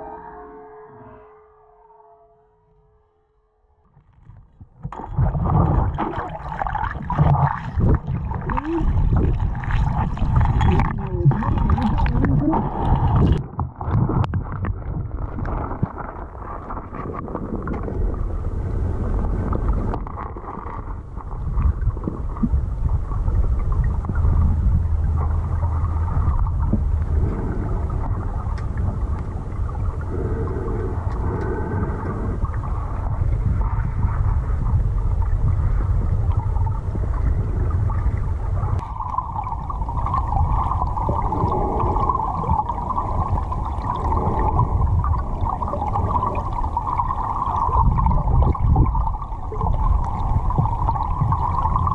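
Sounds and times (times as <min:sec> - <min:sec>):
underwater river current rushing: 0:04.8 - 0:51.9.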